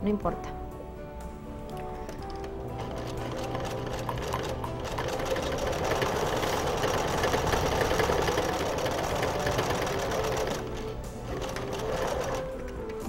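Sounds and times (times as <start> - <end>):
sewing machine stitching: 2.1 - 13.0.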